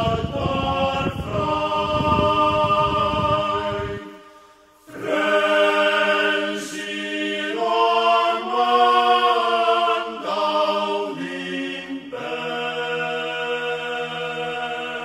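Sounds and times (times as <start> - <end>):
choir holding sustained chords: 0.0 - 15.0.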